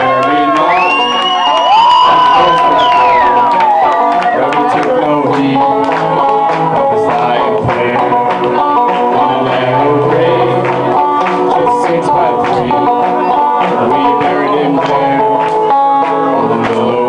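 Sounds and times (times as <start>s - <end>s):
banjos plucking country tune: 2.2s - 17.0s.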